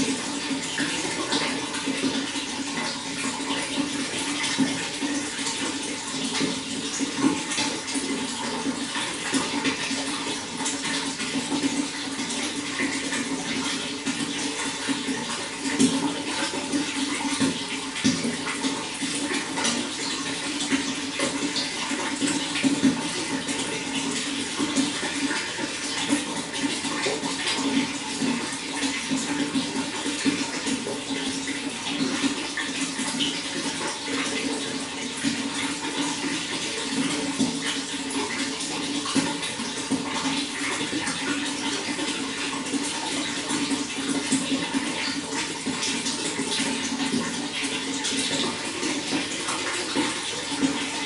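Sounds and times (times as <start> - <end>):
running water splashing: 0.0 - 51.0.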